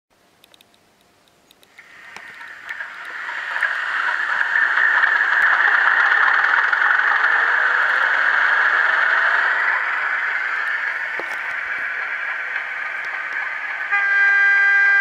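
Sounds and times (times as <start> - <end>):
diesel engine sound from small speaker: 1.8 - 15.0.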